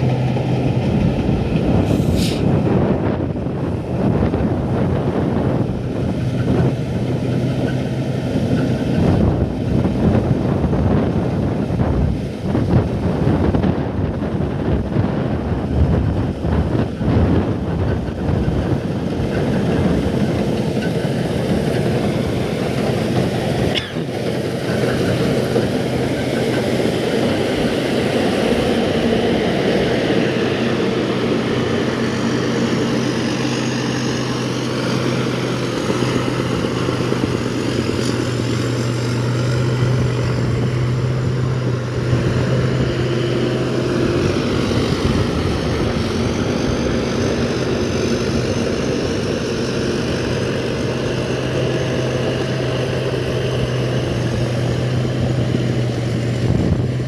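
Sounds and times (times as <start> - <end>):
low engine drone: 0.0 - 57.0
wind buffeting microphone: 0.0 - 57.0.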